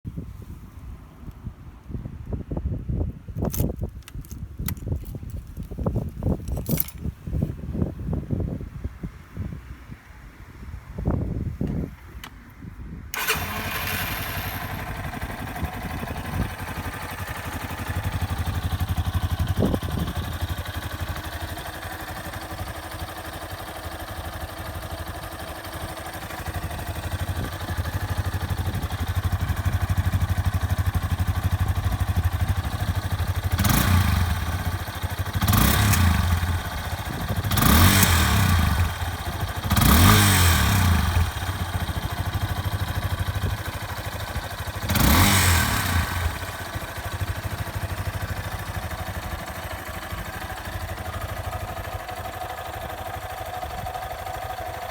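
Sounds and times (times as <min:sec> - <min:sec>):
motorcycle engine idling and revving: 0:00.4 - 0:54.9.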